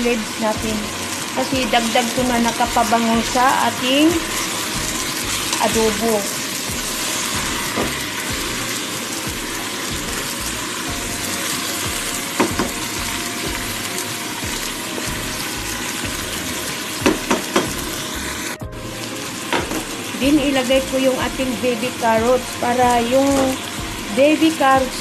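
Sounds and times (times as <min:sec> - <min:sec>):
chicken sizzling in oil: 0:00.0 - 0:25.0.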